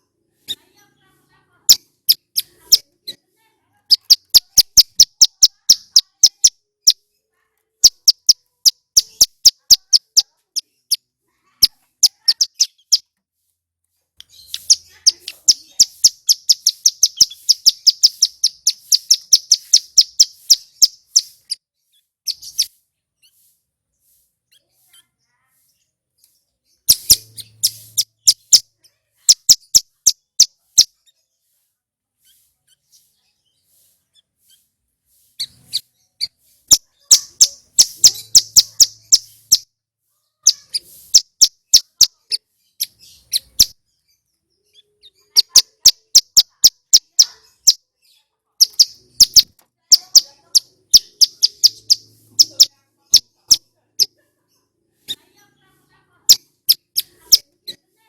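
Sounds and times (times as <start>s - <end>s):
bird singing high sharp chips: 1.7s - 3.3s, 3.9s - 7.2s, 7.8s - 13.2s, 14.2s - 31.6s, 32.2s - 39.7s, 40.4s - 54.2s, 56.3s - 57.8s.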